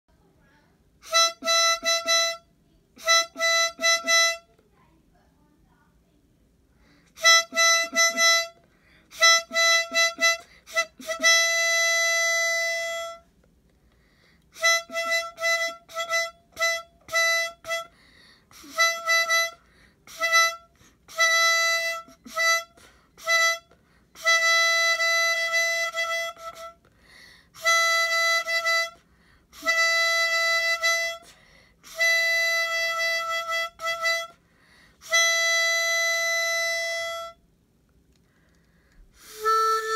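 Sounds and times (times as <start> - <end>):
harmonica playing bugle call: 1.0 - 4.5, 7.1 - 13.3, 14.5 - 26.9, 27.5 - 34.4, 35.0 - 37.4, 39.2 - 39.9.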